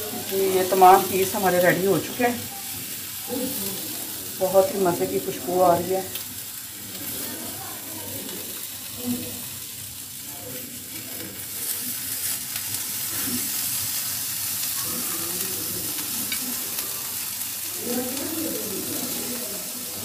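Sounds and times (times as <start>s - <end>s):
faint background voices: 0.0s - 20.0s
steady hiss: 0.0s - 20.0s.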